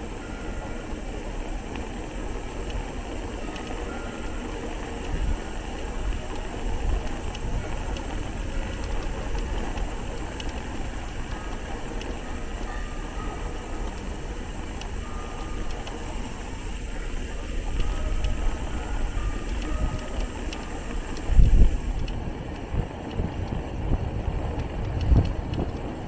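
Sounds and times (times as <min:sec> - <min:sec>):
faint clicks: 0:00.0 - 0:26.0
steady low rumble: 0:00.0 - 0:26.0
vehicle engines running: 0:00.0 - 0:26.0.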